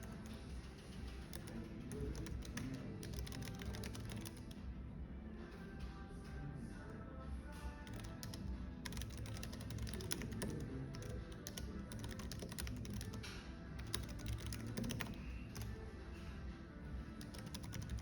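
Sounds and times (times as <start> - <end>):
keyboard typing: 0.0 - 4.8, 5.6 - 18.0
soft background music: 0.0 - 18.0.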